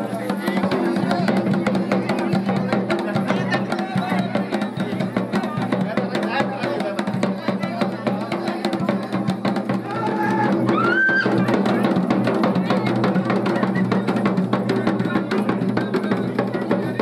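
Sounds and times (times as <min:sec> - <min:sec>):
fast dense drumming: 0:00.0 - 0:17.0.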